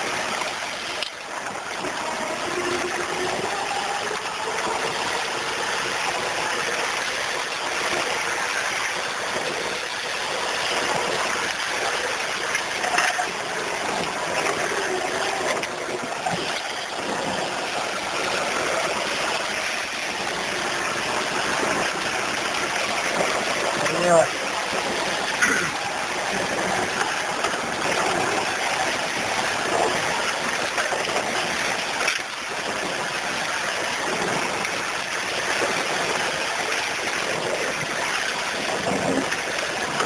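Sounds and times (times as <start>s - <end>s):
vehicle rushing noise on rough track: 0.0s - 40.0s.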